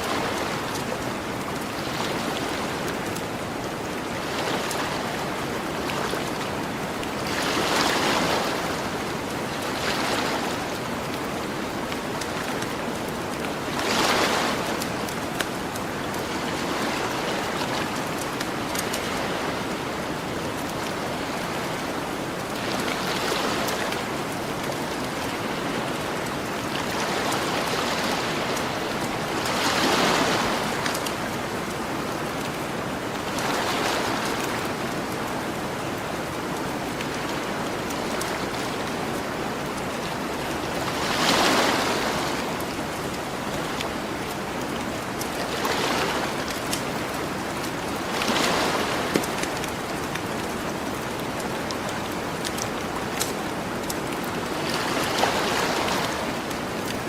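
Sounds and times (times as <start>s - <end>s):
faint campfire crackles: 0.0s - 57.0s
ocean waves washing ashore: 0.0s - 57.0s.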